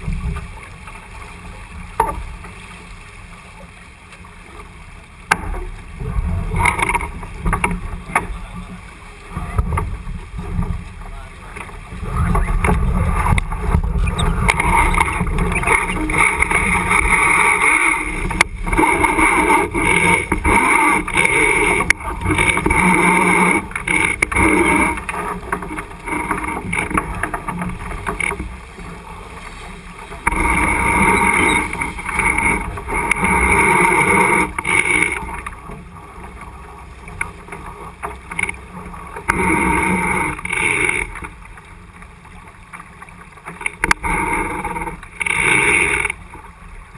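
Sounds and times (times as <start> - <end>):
water rushing past sailboat: 0.0 - 46.9
wind: 0.0 - 46.9.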